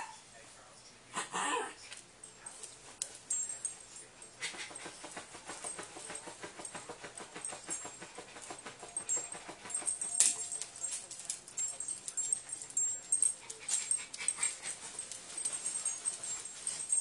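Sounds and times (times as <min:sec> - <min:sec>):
dog making soft rhythmic sounds: 0:02.0 - 0:17.0.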